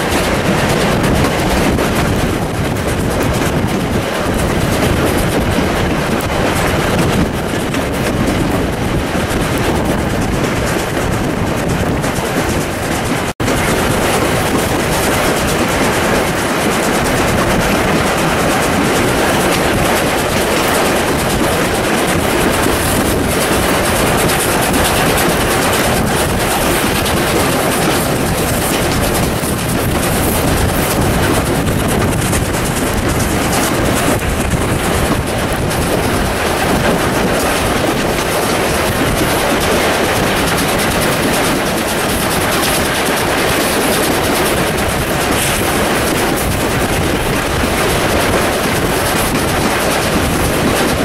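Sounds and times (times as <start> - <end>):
train running noise: 0.0 - 51.0.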